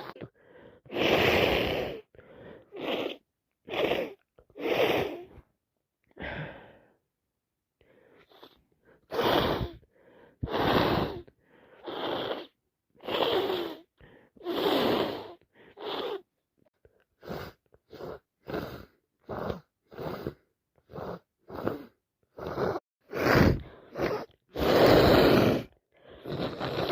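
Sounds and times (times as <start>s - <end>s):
congested nose breathing: 0.0s - 5.4s, 7.8s - 16.3s, 16.9s - 26.9s.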